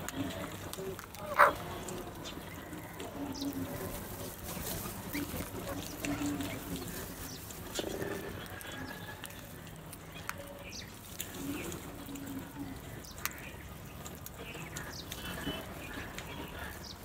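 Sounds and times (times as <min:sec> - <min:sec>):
crows pecking with sharp taps: 0:00.0 - 0:17.0.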